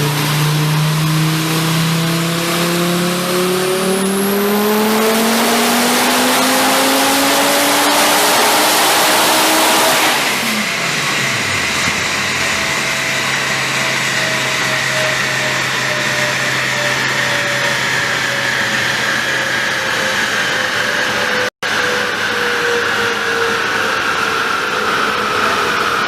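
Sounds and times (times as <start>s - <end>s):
car engine revving down: 0.0s - 26.0s
turbo whine: 0.0s - 26.0s.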